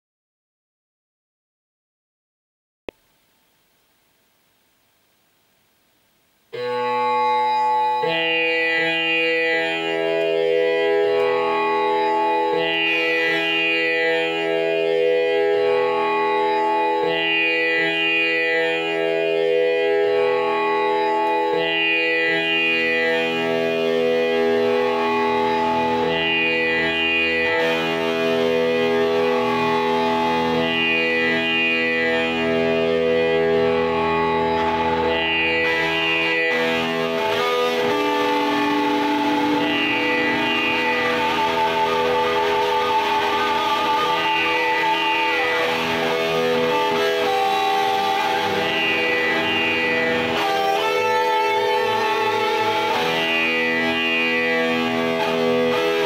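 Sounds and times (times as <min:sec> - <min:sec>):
electric guitar improvisation: 0:06.5 - 0:56.0.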